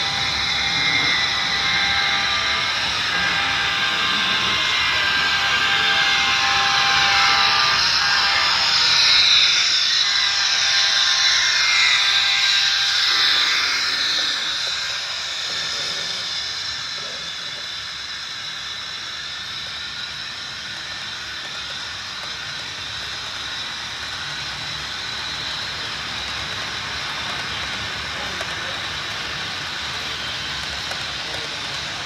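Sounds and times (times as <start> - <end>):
freight cars rolling on track: 0.0 - 32.0
model train locomotive passing: 0.0 - 32.0.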